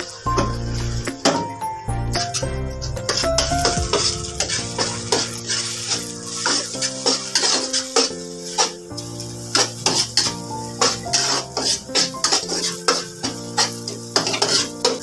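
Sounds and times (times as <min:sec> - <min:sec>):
background music: 0:00.0 - 0:15.0
metal spoon scraping a pan: 0:02.2 - 0:15.0.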